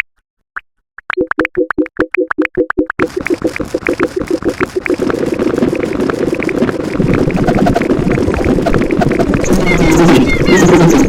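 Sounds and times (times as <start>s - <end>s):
electronic clicks: 1.0s - 11.0s
short pitched electronic blips: 1.1s - 11.0s.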